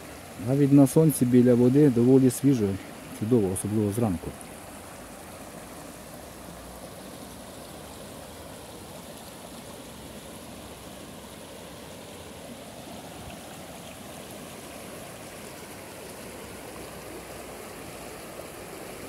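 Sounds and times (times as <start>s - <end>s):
river rushing over stones: 0.0s - 19.0s.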